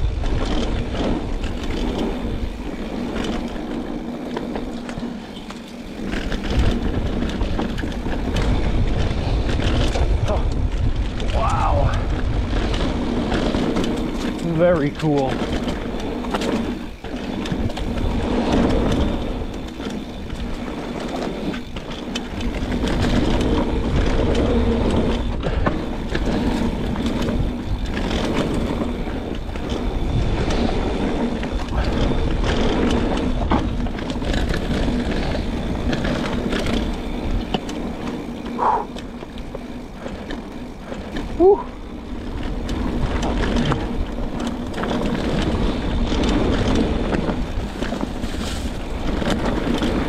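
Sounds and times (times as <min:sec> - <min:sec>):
bike rattling over roots: 0:00.0 - 0:50.0
bike tyres rumbling: 0:00.0 - 0:50.0.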